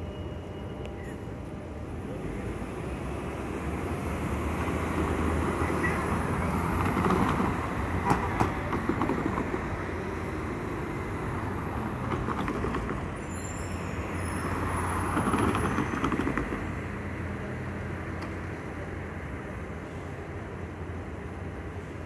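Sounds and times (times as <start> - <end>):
tram passing on street track: 0.0 - 22.0
cars driving past: 1.9 - 22.0.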